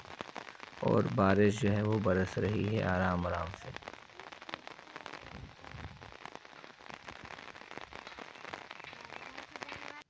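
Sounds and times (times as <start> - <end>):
light rain falling: 0.0 - 10.0.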